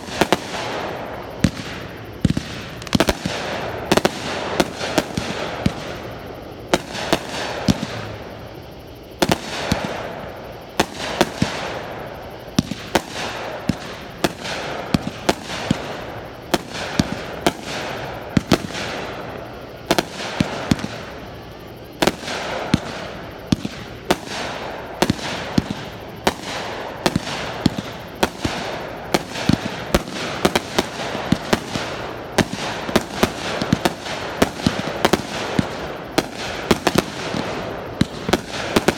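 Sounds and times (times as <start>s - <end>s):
fireworks bangs: 0.0s - 8.4s, 12.6s - 21.3s, 22.0s - 38.9s
continuous hiss: 0.0s - 38.9s.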